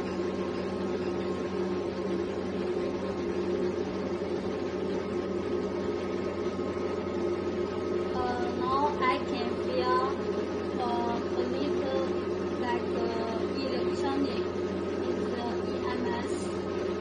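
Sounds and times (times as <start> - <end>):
machine humming with tones: 0.0 - 17.0.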